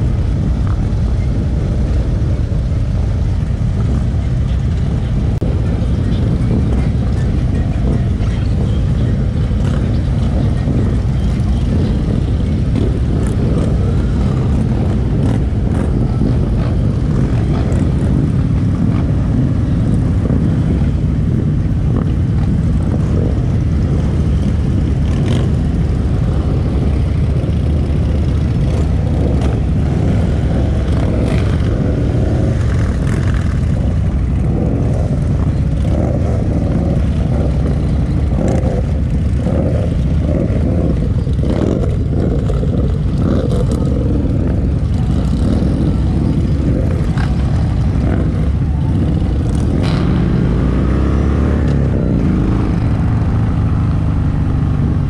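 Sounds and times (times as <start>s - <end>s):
motorcycle cruising: 0.0s - 55.0s.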